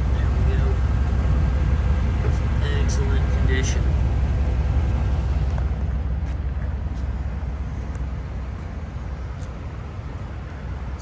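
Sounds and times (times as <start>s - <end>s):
car exhaust rumble idling: 0.0s - 11.0s.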